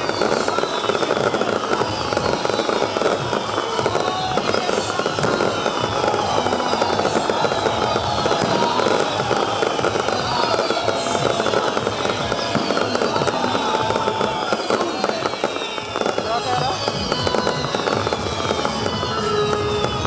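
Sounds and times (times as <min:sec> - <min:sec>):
falling firework whistles: 0:00.0 - 0:20.0
fireworks crackling: 0:00.0 - 0:20.0.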